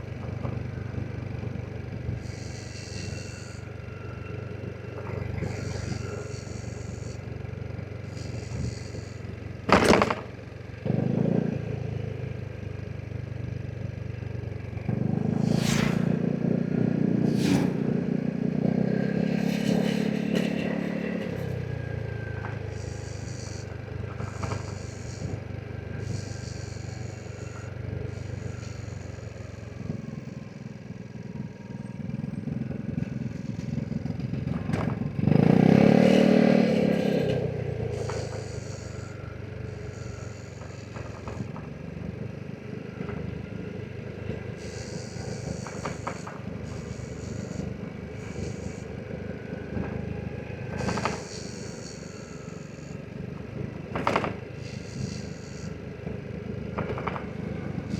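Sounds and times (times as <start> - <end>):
scooter engine running: 0.0 - 57.9.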